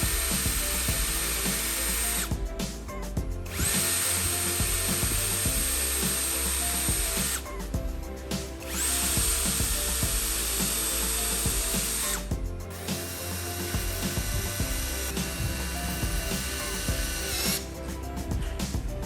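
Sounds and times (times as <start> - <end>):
power tool motor whining: 0.0 - 2.4, 3.4 - 7.6, 8.6 - 18.0.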